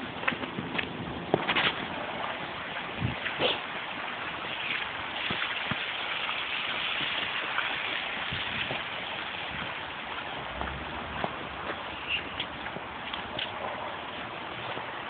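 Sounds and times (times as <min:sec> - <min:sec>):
tyres hissing on wet road: 0:01.9 - 0:15.0.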